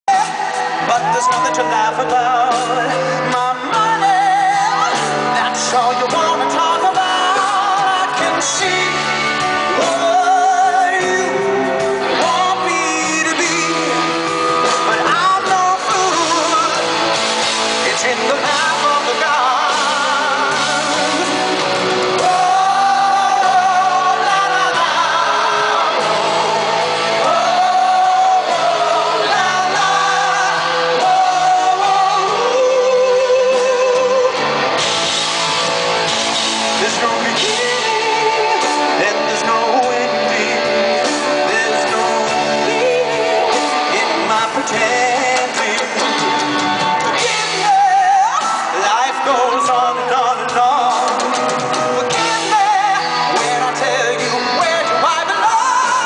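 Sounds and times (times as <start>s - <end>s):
man singing: 0.0s - 34.7s, 36.4s - 56.0s
drums: 0.0s - 56.0s
electric guitar: 0.0s - 56.0s.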